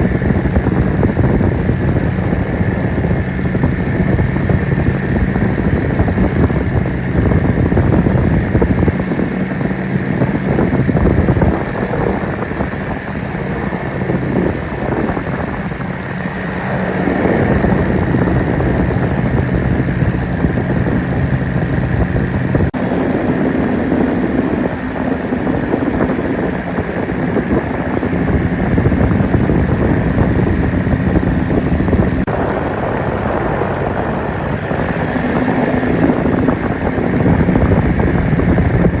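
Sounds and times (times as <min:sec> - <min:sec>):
paramotor engine and propeller: 0:00.0 - 0:39.0
wind buffeting microphone: 0:00.0 - 0:39.0.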